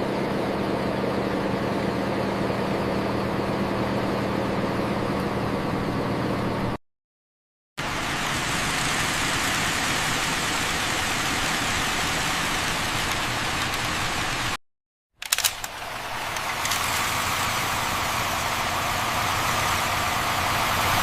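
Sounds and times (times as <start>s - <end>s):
bus engine idling: 0.0s - 6.8s, 7.8s - 14.6s, 15.2s - 21.0s
hissing engine and road noise: 0.0s - 6.8s, 7.8s - 14.6s, 15.2s - 21.0s.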